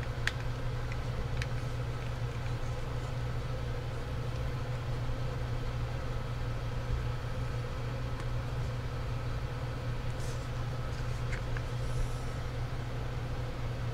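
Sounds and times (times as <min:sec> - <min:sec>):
background machinery hum: 0:00.0 - 0:13.9.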